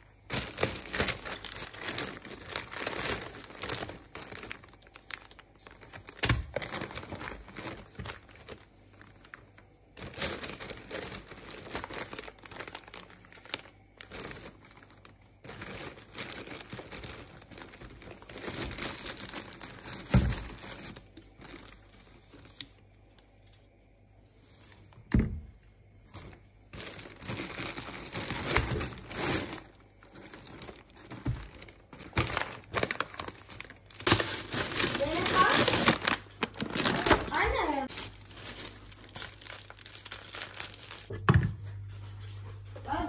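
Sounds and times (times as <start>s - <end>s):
crinkling and rustling handling noise: 0.0s - 43.0s.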